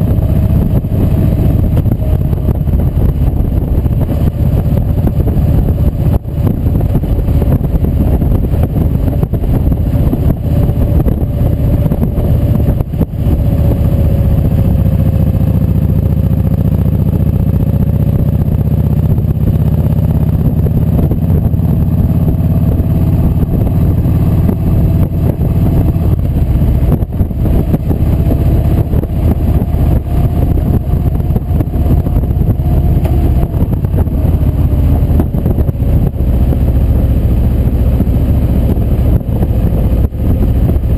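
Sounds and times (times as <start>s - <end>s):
motorcycle engine drone: 0.0s - 40.9s.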